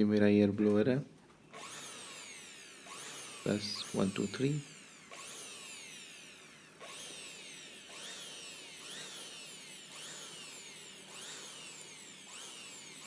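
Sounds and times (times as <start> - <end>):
electric air blower whine: 1.5 - 13.0.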